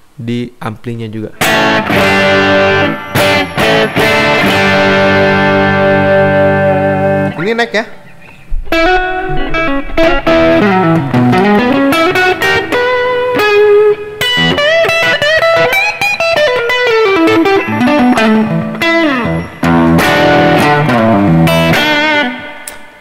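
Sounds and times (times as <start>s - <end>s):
overdriven electric guitar lead: 1.4s - 23.0s.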